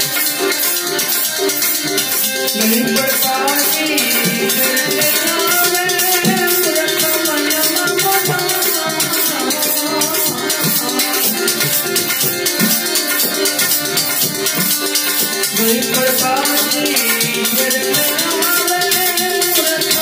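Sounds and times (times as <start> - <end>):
hand drum: 0.0 - 20.0
harmonium melody: 0.0 - 20.0
jingling hand percussion: 0.0 - 20.0.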